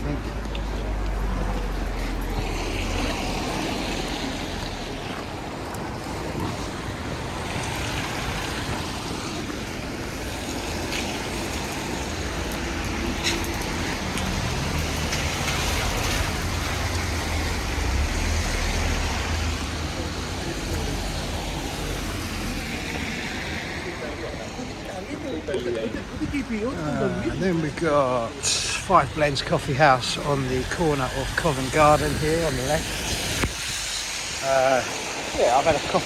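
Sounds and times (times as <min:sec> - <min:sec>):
low traffic rumble: 0:00.0 - 0:36.0
tyre hiss on wet road: 0:00.9 - 0:05.4, 0:06.7 - 0:24.5, 0:28.2 - 0:36.0.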